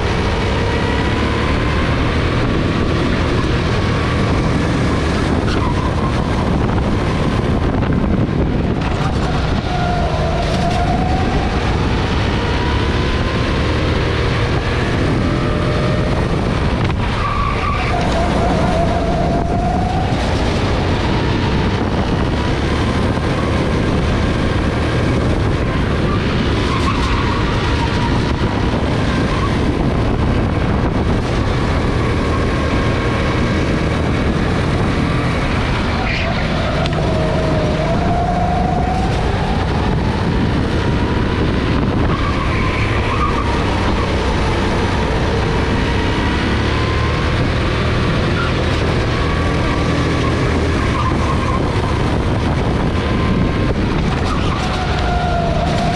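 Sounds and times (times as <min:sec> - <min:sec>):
go-kart engine revving: 0:00.0 - 0:55.9.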